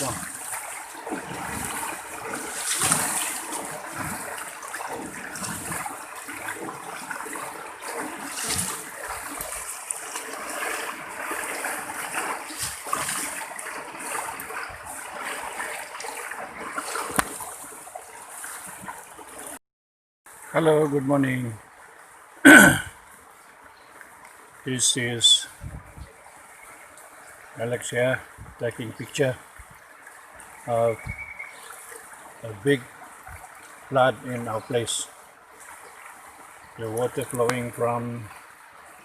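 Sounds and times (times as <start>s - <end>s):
floodwater rushing and splashing: 0.0s - 19.6s, 20.3s - 39.0s.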